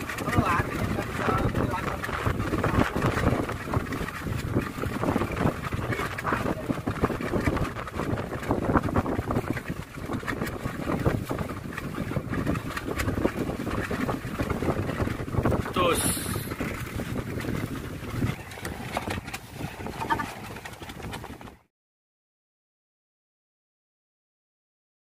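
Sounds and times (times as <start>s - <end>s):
water washing against boat hull: 0.0s - 21.7s
wind buffeting microphone: 0.0s - 21.7s.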